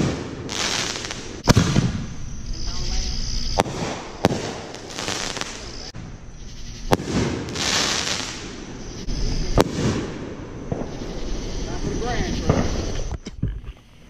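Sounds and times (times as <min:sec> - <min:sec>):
firework hiss: 0:00.0 - 0:13.2
fireworks bangs: 0:00.0 - 0:13.2.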